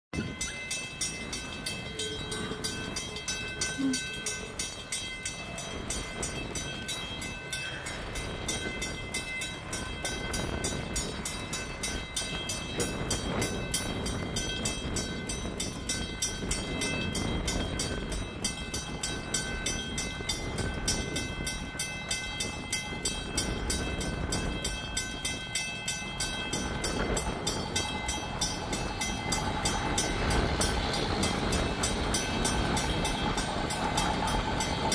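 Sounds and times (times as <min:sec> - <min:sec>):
distant train rumble: 0:00.1 - 0:34.9.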